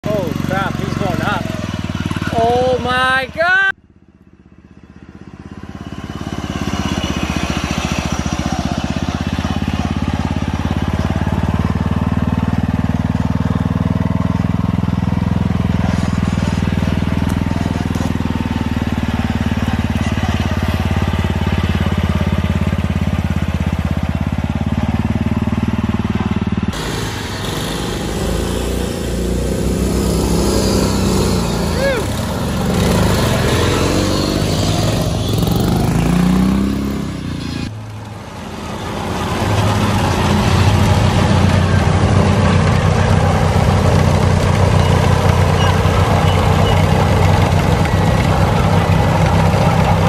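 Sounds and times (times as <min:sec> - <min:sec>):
lawn mower engine running: 0:00.0 - 0:50.0.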